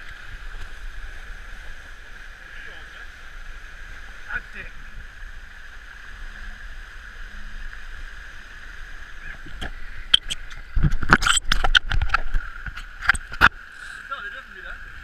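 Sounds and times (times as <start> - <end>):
water rushing past hull: 0.0 - 15.0
wind: 0.0 - 15.0.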